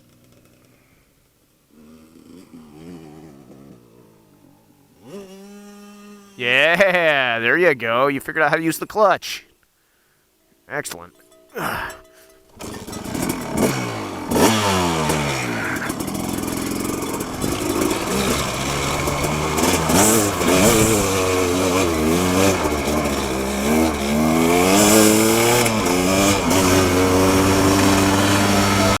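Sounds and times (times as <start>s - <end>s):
dirt bike engines revving: 1.7s - 8.8s, 11.0s - 29.0s.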